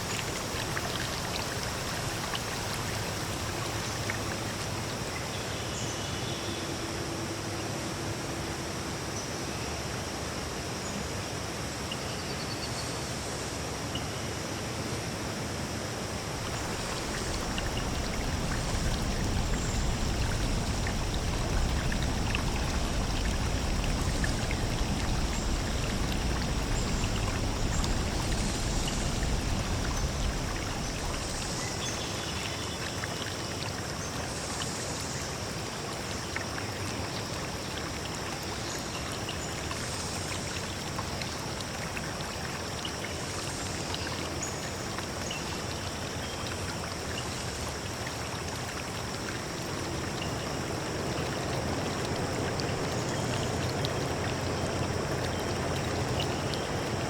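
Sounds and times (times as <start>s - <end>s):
water rushing: 0.0s - 6.0s, 14.4s - 57.0s.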